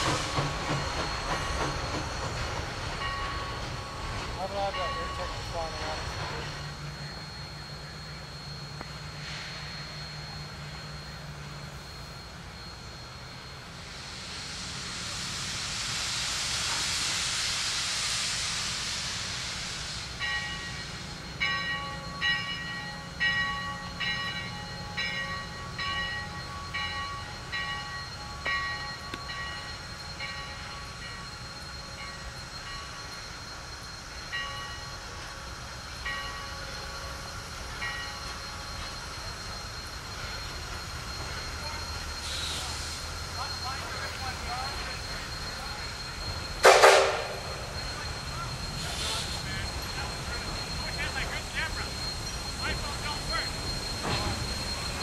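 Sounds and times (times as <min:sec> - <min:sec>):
locomotive bell ringing: 0:00.0 - 0:15.6, 0:19.1 - 0:55.0
steam locomotive hissing steam: 0:00.0 - 0:55.0.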